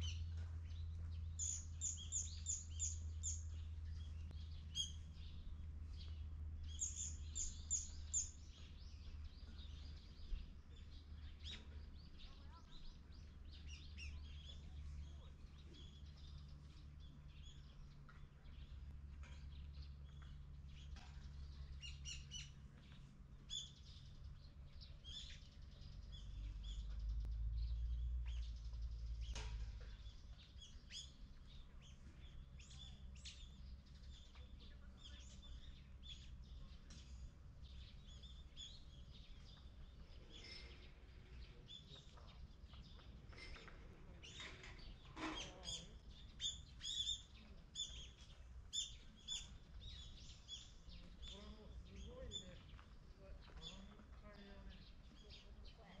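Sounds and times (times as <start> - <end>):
low steady rumble: 0.0 - 45.2
small birds chirping: 0.0 - 56.0.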